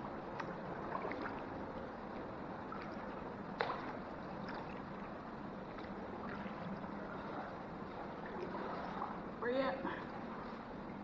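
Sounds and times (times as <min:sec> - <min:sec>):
water trickling and lapping: 0:00.0 - 0:11.0.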